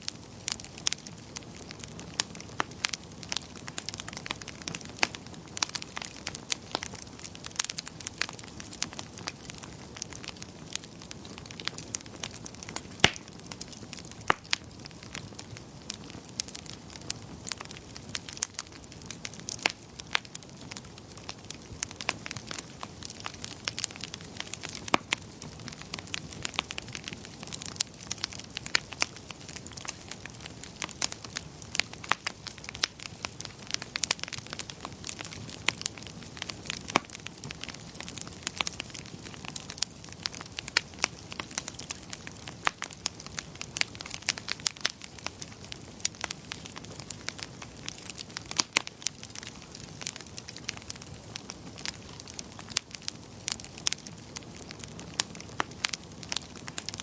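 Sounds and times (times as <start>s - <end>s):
soft steady hiss: 0.0s - 57.0s
wood fire crackling and popping: 0.0s - 57.0s.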